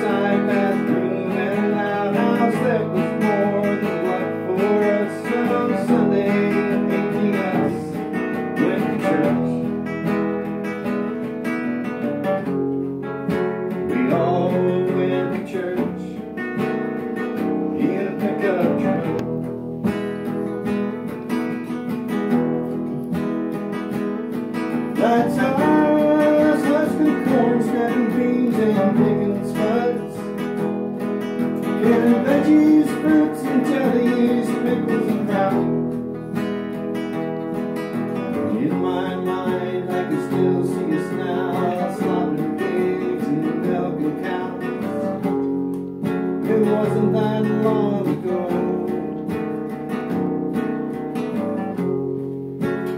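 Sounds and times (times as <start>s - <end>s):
acoustic guitar strumming: 0.0s - 52.9s.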